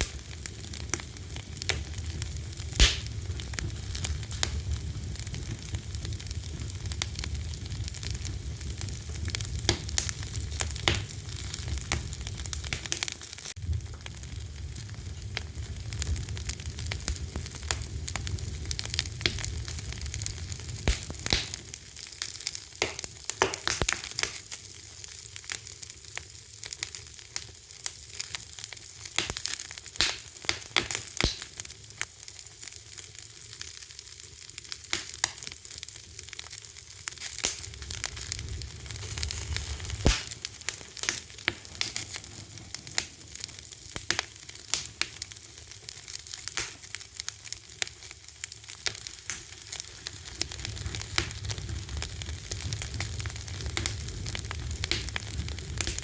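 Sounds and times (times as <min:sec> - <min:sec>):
low rumble of flames: 0:00.0 - 0:32.0, 0:32.7 - 0:56.0
wood fire crackling and popping: 0:00.0 - 0:56.0.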